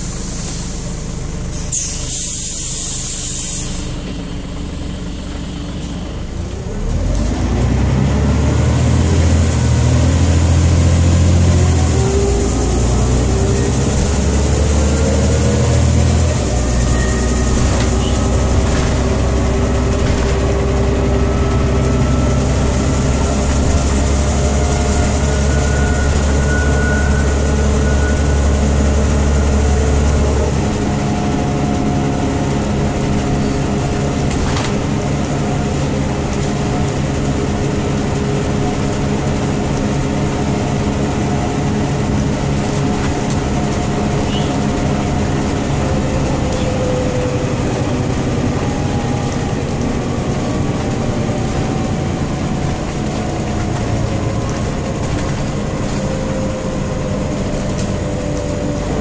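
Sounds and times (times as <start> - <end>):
bus diesel engine drone: 0.0 - 59.0
road noise: 0.0 - 59.0.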